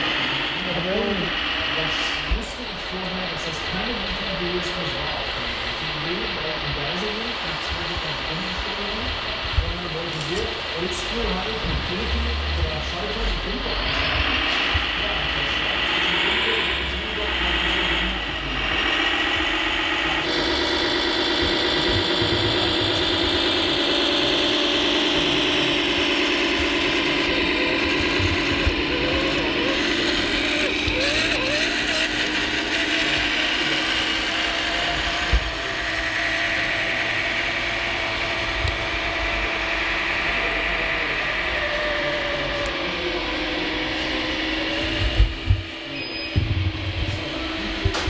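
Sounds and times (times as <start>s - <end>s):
model truck motor whine: 0.0s - 48.0s.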